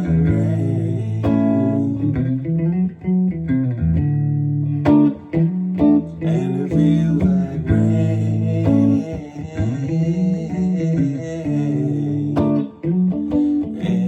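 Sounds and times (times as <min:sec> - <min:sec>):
guitar playing: 0:00.0 - 0:14.0.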